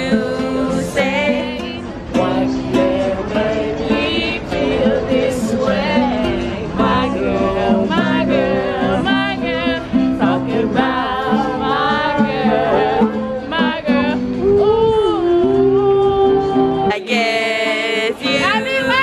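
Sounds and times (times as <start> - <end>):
acoustic guitars strumming: 0.0 - 19.0
people singing: 0.0 - 19.0.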